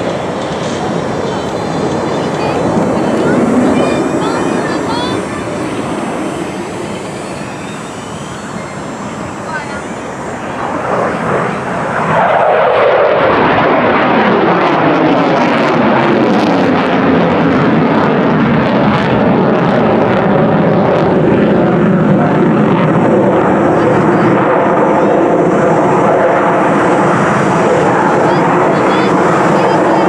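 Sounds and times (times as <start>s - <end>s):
jet engine passing overhead: 0.0s - 30.0s.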